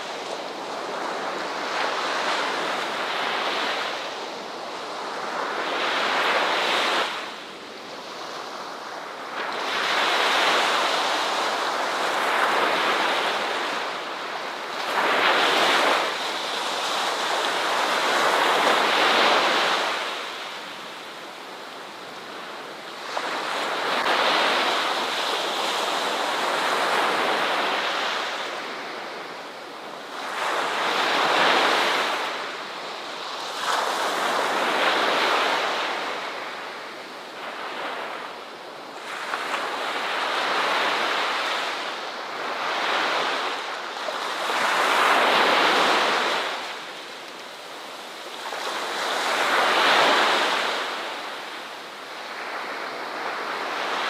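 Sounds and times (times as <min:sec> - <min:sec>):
ocean surf breaking on shore: 0:00.0 - 0:54.0.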